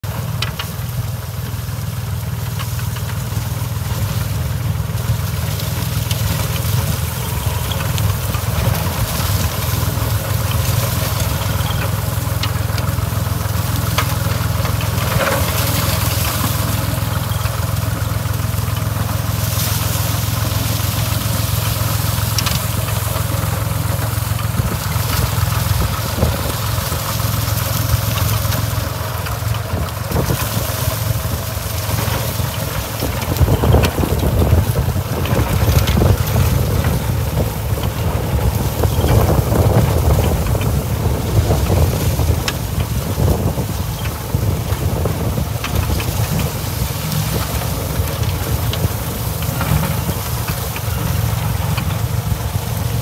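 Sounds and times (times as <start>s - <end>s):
rotovator churning soil: 0.0s - 53.0s
tractor diesel engine running: 0.0s - 53.0s.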